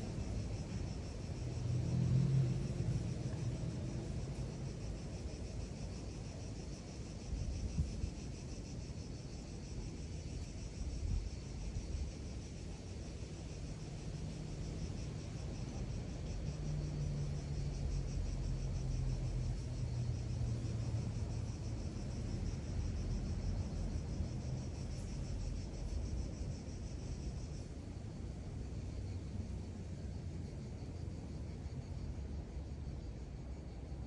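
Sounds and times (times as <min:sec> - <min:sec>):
distant engine hum: 0:00.0 - 0:07.1, 0:12.2 - 0:34.0.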